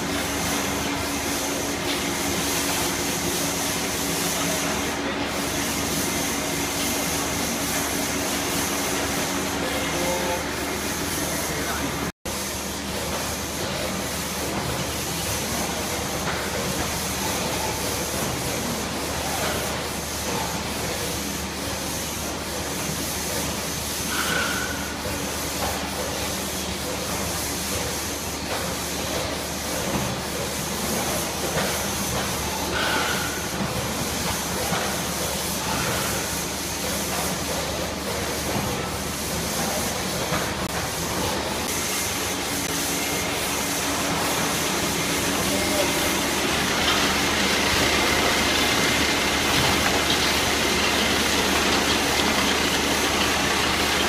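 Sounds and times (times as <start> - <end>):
packing machinery running: 0.0 - 54.0.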